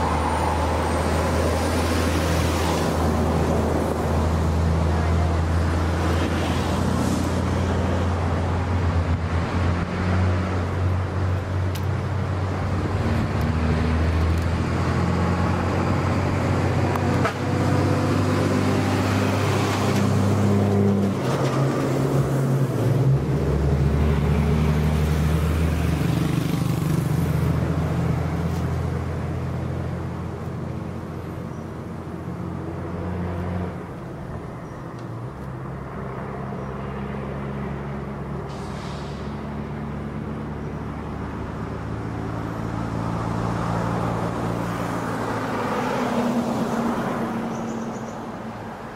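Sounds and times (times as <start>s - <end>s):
road traffic passing: 0.0s - 48.9s.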